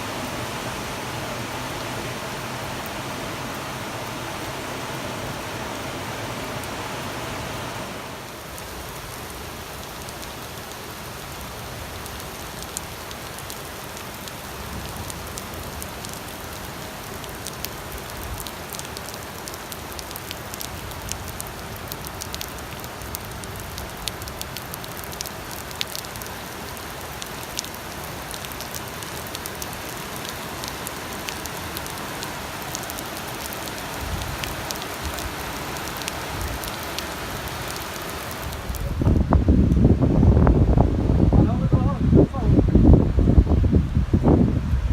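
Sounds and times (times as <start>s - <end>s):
raindrops ticking on surface: 0.0s - 39.9s
rain hissing: 0.0s - 44.9s.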